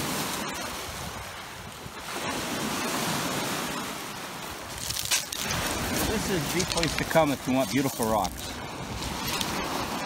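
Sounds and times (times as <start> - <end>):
surf washing on pebble beach: 0.0 - 10.0
wind buffeting microphone: 0.0 - 10.0.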